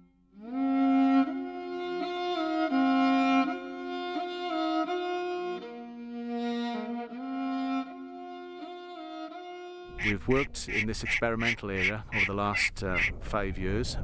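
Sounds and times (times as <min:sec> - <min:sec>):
bowed strings holding chords: 0:00.0 - 0:11.4.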